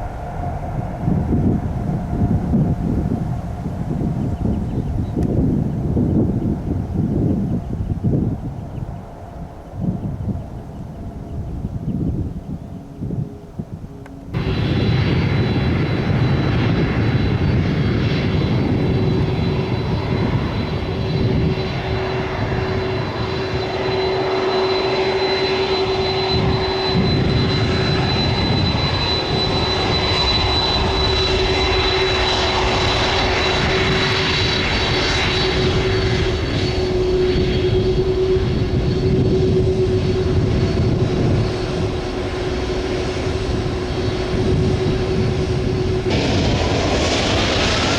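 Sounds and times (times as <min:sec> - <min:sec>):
jet engines at takeoff: 0:00.0 - 0:47.9.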